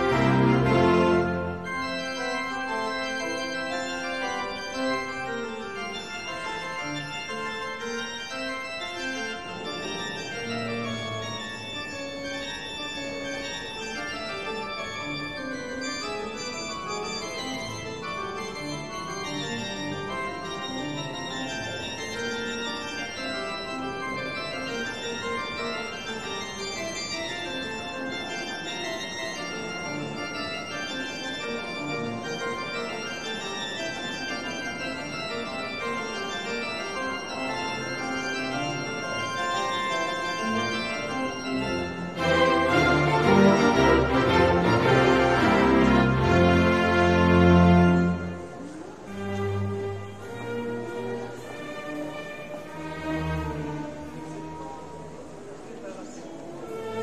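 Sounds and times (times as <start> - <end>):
organ playing held chords: 0.0 - 49.1.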